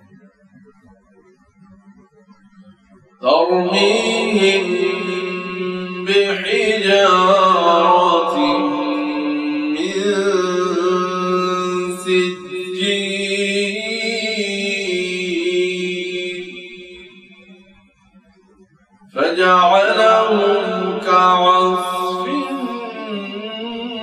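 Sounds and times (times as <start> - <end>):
person chanting melodically: 3.2 - 17.7, 19.2 - 24.0.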